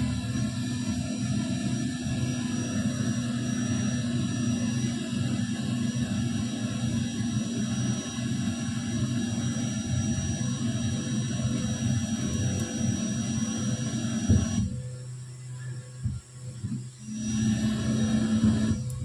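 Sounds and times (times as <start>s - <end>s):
amplifier speaker hum: 0.0s - 19.0s.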